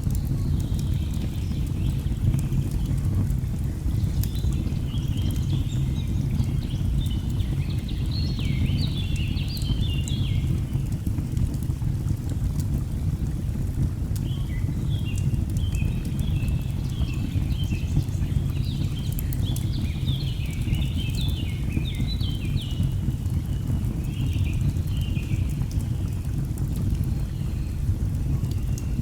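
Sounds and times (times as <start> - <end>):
faint crackles of burning logs: 0.0 - 29.0.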